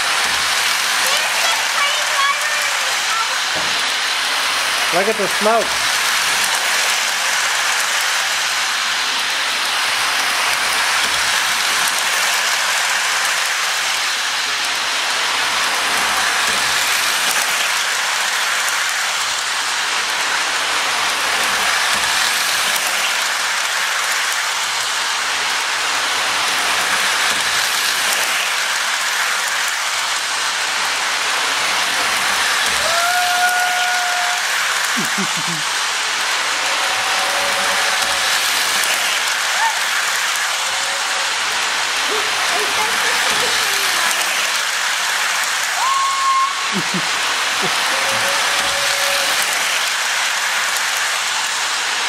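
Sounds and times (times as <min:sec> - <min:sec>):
toy train whirring and rattling: 0:00.0 - 0:52.0.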